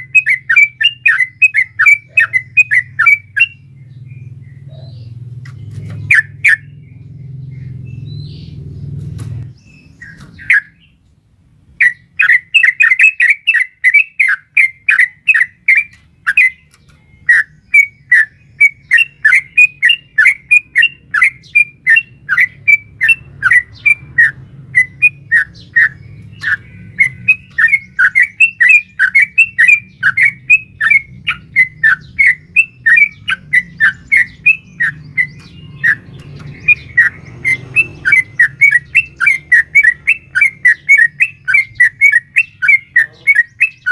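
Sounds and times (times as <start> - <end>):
bird chirping rapidly: 0.0 - 11.0, 11.7 - 43.9.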